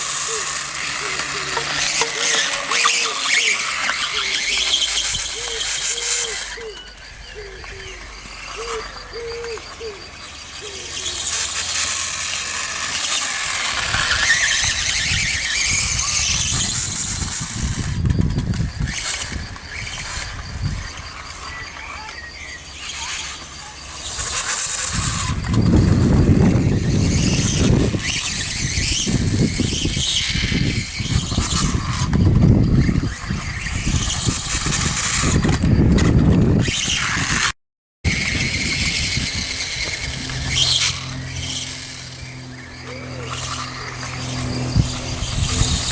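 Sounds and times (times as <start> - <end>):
electric motor whining: 0.0 - 45.9.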